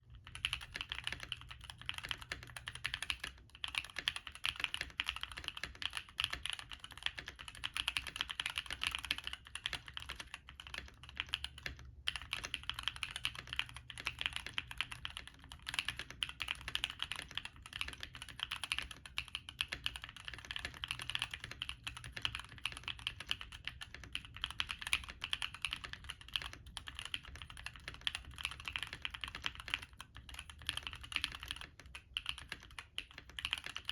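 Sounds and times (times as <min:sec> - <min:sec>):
fast typing on mechanical keyboard: 0:00.1 - 0:33.9.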